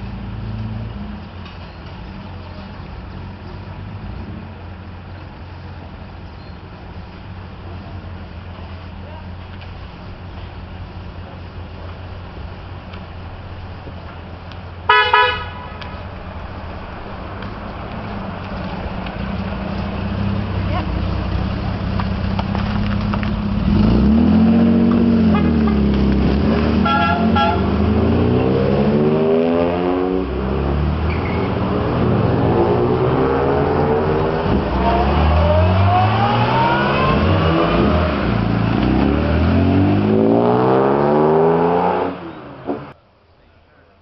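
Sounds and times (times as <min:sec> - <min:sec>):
sports car engines accelerating: 0:07.2 - 0:43.0.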